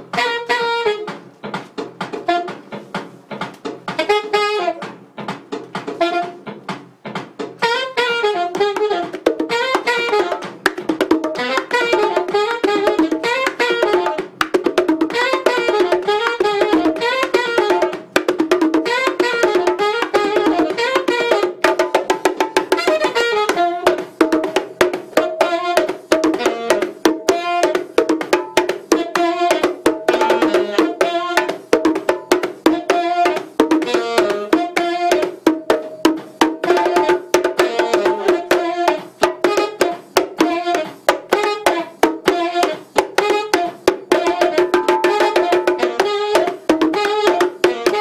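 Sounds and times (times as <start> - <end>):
saxophone melody: 0.0 - 2.9, 3.8 - 6.8, 7.5 - 48.0
bongos played by hand: 0.0 - 48.0.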